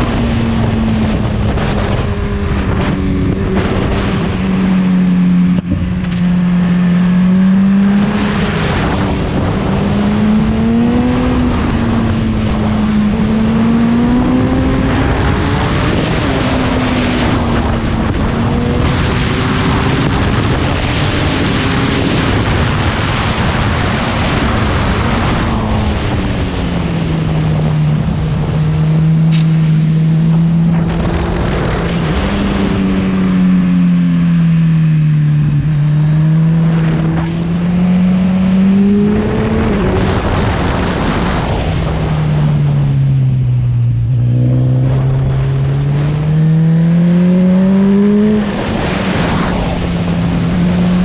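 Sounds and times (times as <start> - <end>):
motorcycle engine revving: 0.0 - 51.0
wind and road noise: 0.0 - 51.0.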